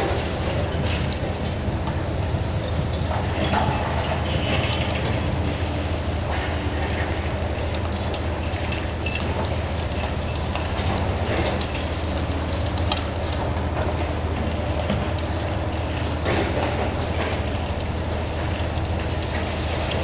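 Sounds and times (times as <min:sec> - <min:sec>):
concrete cracking and clattering: 0:00.0 - 0:20.0
diesel excavator engines humming: 0:00.0 - 0:20.0.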